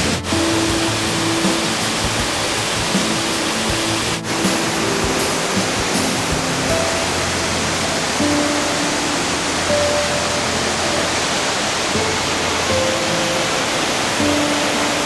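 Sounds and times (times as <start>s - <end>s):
soft background music: 0.0s - 15.0s
waterfall torrent roaring: 0.0s - 15.0s.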